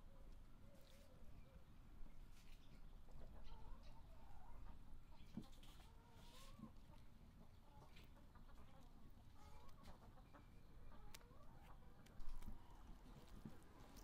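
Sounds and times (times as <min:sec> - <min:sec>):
chickens clucking: 0:02.6 - 0:14.0.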